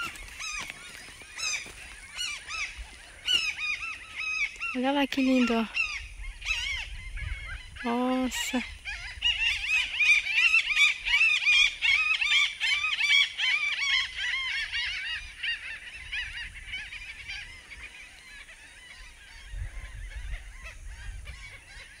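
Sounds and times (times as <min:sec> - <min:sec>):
flock of waterbirds calling: 0:00.0 - 0:22.0.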